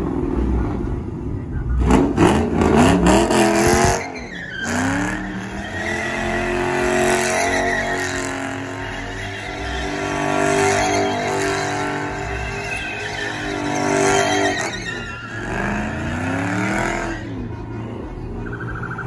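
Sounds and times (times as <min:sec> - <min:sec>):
car engine revving: 0:00.0 - 0:19.0
tyres screeching: 0:03.2 - 0:19.0.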